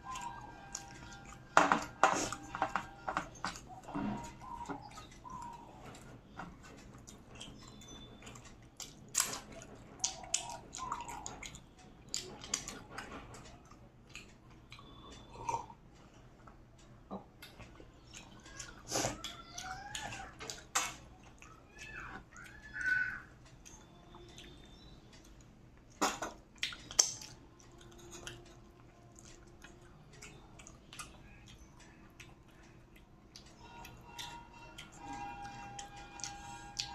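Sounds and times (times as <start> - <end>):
chewing and lip smacks: 0.0 - 2.5, 3.2 - 22.6, 23.4 - 36.9.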